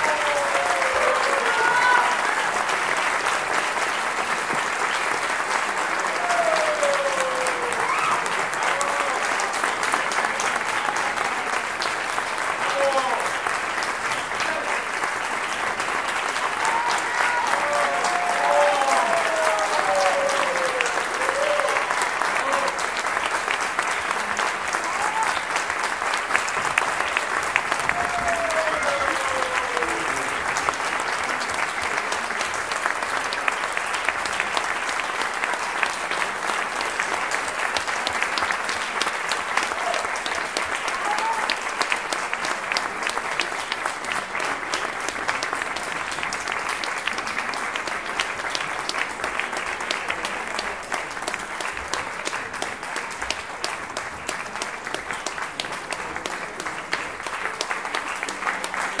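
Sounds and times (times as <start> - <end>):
audience applauding: 0.0 - 59.0.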